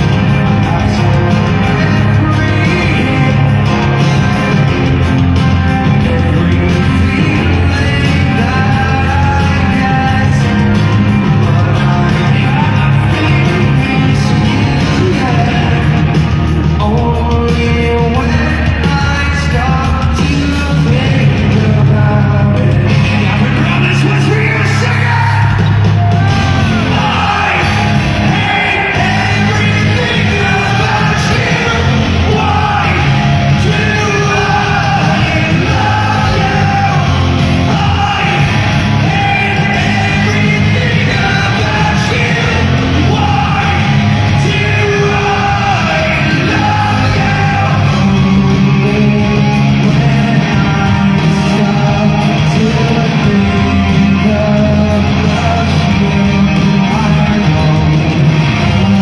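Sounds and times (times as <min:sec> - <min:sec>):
crowd shouting: 0:00.0 - 0:17.0, 0:20.4 - 0:59.0
hard rock band playing live: 0:00.0 - 0:59.0
person singing lead vocal: 0:00.0 - 0:59.0.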